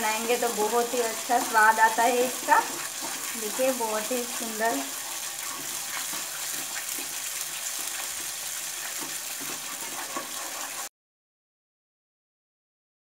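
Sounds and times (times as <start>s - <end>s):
food sizzling in oil: 0.0s - 10.9s
spatula scraping pan: 0.0s - 10.9s.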